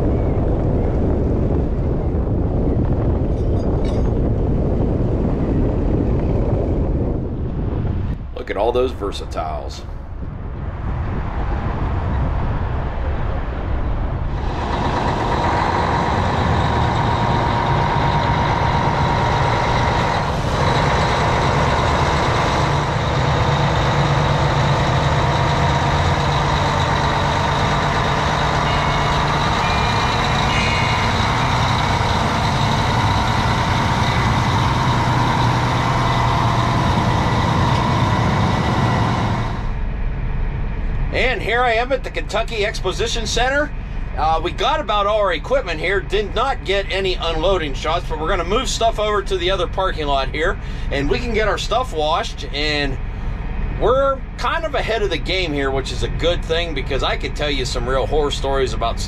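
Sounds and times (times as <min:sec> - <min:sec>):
heavy engine droning with whine: 0:00.0 - 0:59.0.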